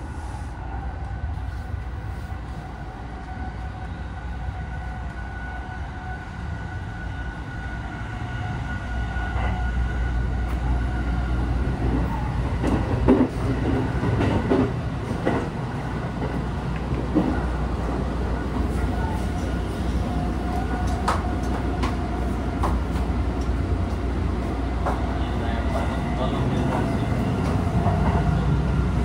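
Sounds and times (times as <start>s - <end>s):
train rumble with faint whine: 0.0s - 29.0s.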